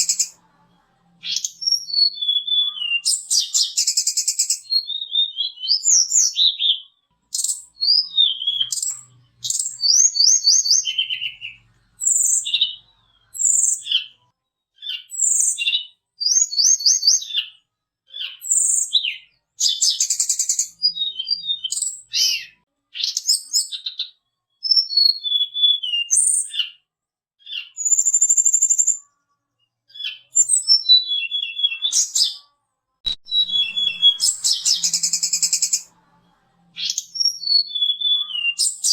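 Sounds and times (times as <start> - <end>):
bird whistled song and trills: 0.0 - 0.4, 1.2 - 14.2, 14.8 - 26.8, 27.4 - 29.0, 29.9 - 32.4, 33.2 - 35.9, 36.8 - 38.9.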